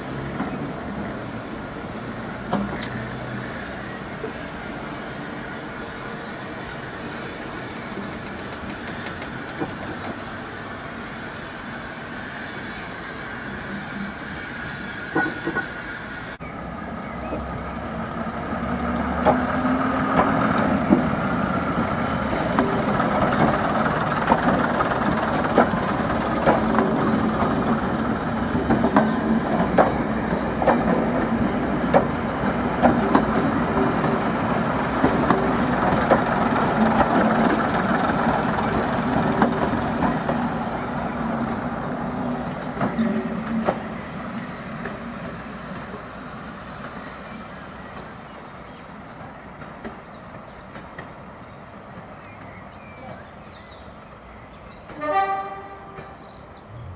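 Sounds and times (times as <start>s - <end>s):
diesel train engine drone: 0.0s - 56.9s
train wheels clicking over rail joints: 0.2s - 3.7s, 5.9s - 16.2s, 18.8s - 53.2s.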